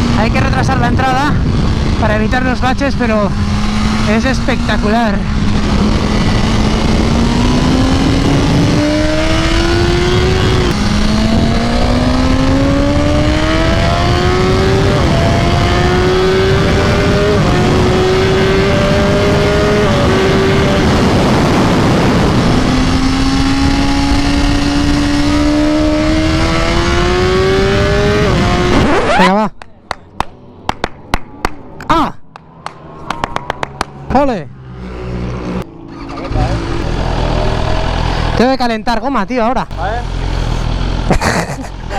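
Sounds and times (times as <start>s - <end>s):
motorcycle engine revving through gears: 0.0s - 29.3s, 34.0s - 38.7s, 39.7s - 41.9s.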